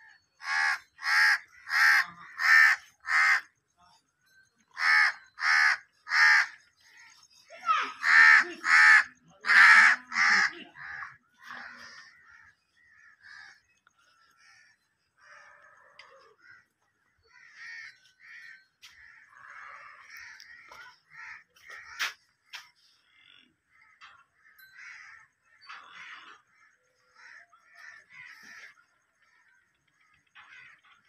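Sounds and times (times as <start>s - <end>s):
crows cawing: 0.0s - 3.6s, 4.6s - 31.0s.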